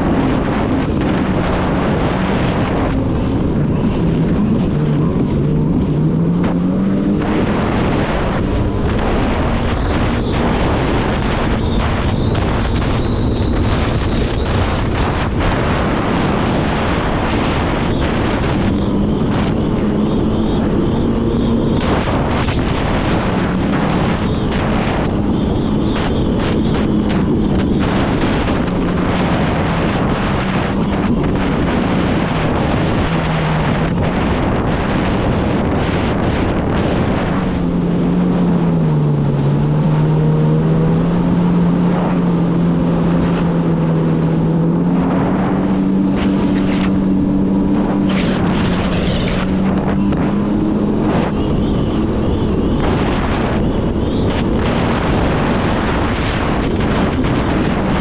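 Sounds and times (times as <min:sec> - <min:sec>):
jet ski engine running: 0:00.0 - 0:58.0
wind noise on microphone: 0:00.0 - 0:58.0.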